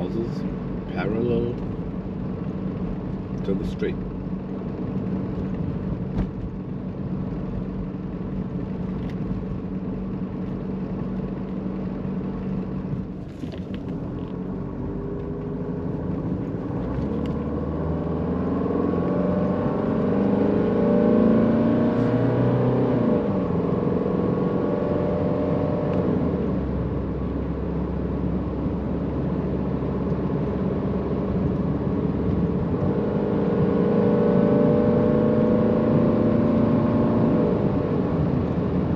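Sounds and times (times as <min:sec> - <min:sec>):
diesel car engine driving: 0:00.0 - 0:38.9.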